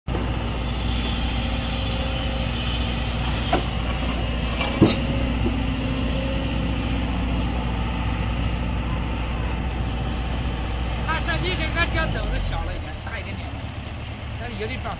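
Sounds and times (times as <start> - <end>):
diesel engine running: 0.1 - 14.9.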